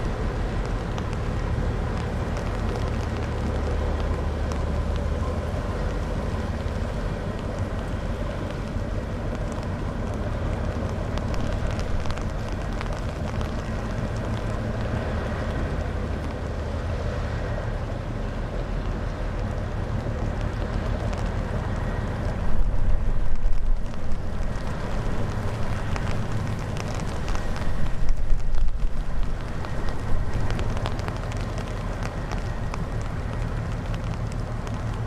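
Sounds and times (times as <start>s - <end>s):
boat engine drone: 0.0s - 35.0s.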